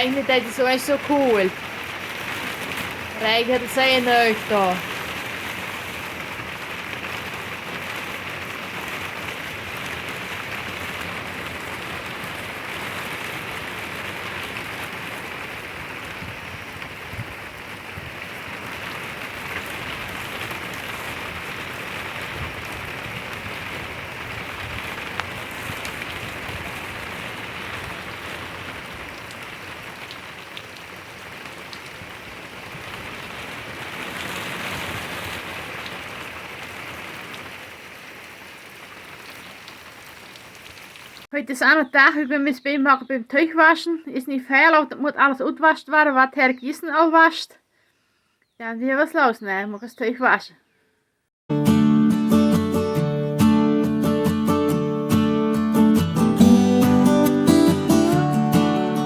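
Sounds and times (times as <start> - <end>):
steady rain hiss: 0.0 - 42.3, 51.6 - 59.0
louder raindrops: 0.0 - 42.6, 51.5 - 59.0.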